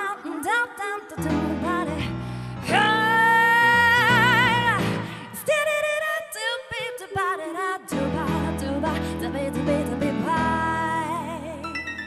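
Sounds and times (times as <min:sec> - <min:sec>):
pop backing track: 0:00.0 - 0:12.0.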